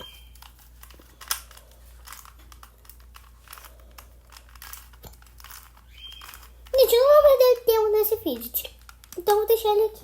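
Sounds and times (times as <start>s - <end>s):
puzzle cube clicking and rattling: 0.0s - 9.9s.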